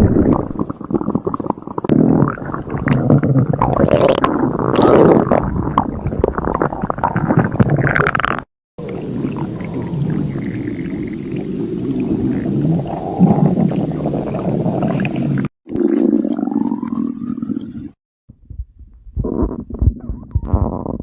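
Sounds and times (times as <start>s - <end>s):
stomach growling and gurgling: 0.0s - 18.0s, 19.2s - 21.0s.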